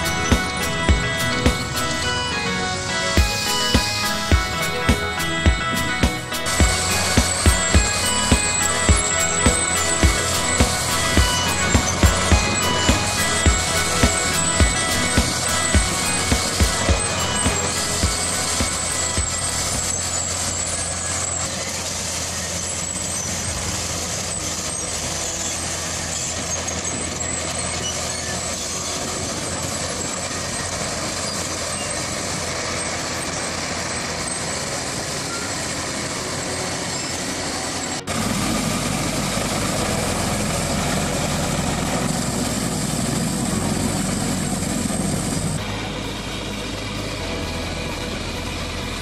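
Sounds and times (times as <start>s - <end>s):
rotavator engine churning soil: 0.0s - 49.0s.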